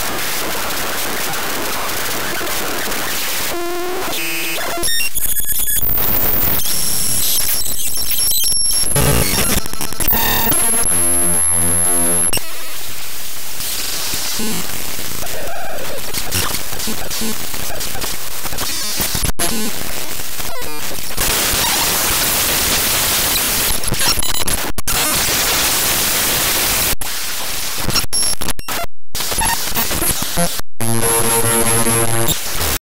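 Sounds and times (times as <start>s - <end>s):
glitchy digital noise: 0.0s - 12.4s, 13.6s - 32.8s.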